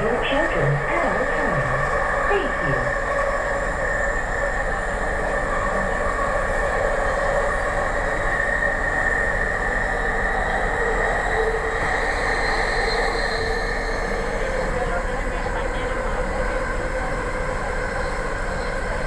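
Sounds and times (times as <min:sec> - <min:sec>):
train rolling rumble: 0:00.0 - 0:19.0.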